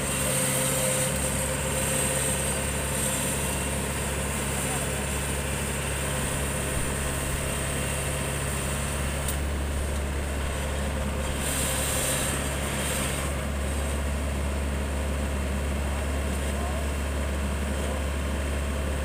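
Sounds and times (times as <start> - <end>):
diesel engine running steadily: 0.0 - 19.0.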